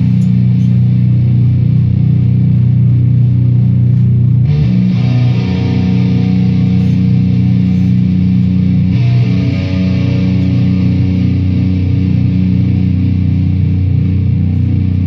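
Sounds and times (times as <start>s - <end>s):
loud guitar chords: 0.0s - 15.0s.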